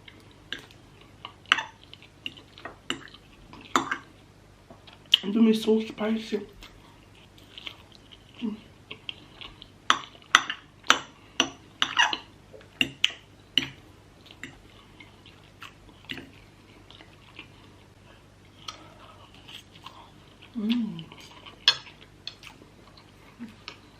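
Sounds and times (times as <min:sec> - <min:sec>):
chewing: 0:00.0 - 0:05.3, 0:06.5 - 0:23.9.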